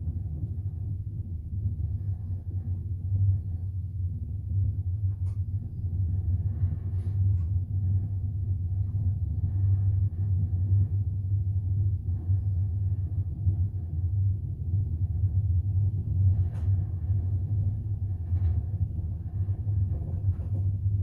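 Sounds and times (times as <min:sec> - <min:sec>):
train rumble inside carriage: 0:00.0 - 0:21.0.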